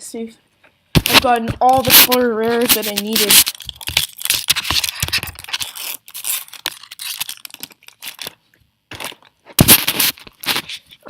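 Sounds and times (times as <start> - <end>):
foil wrapper crinkling and tearing: 1.0 - 8.4, 9.0 - 10.8.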